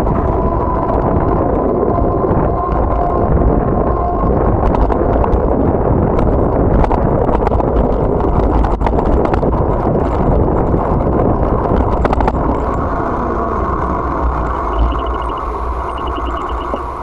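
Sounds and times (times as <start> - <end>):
bike rattling over bumps: 0.0 - 14.8
tyre and wind rumble: 0.0 - 17.0.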